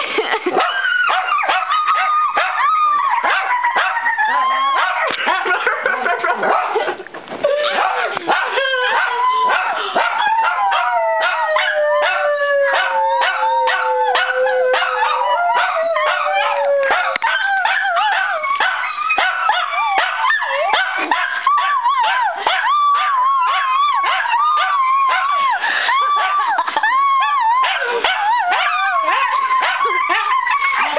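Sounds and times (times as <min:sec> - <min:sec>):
dogs howling: 0:00.6 - 0:05.1, 0:07.5 - 0:30.9
dogs yipping and barking: 0:00.6 - 0:05.8, 0:07.5 - 0:30.9.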